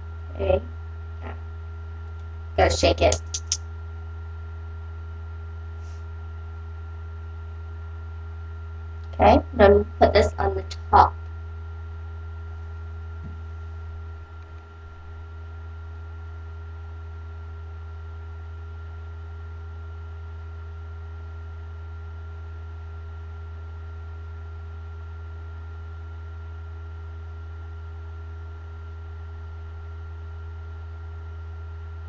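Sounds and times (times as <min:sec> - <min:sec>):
high steady whine: 0:00.0 - 0:32.0
low electrical hum: 0:00.0 - 0:32.0.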